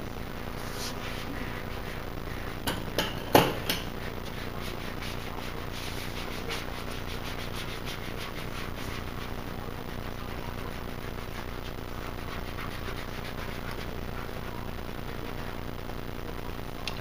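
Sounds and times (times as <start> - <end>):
squeegee rubbing over vinyl: 0.4 - 2.6, 3.9 - 15.7.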